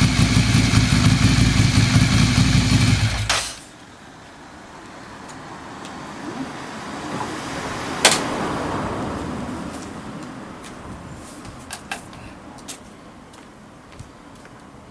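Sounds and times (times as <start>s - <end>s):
road vehicle passing by: 0.0s - 13.3s.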